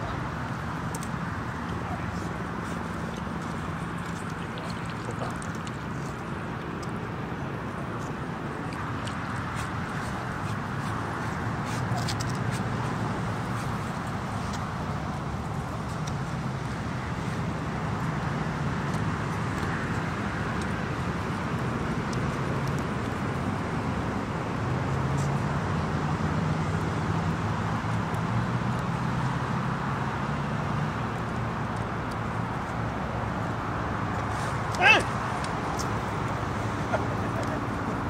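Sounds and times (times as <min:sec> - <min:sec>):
engine-like hum: 0:00.0 - 0:38.0
rushing background noise: 0:00.0 - 0:38.0.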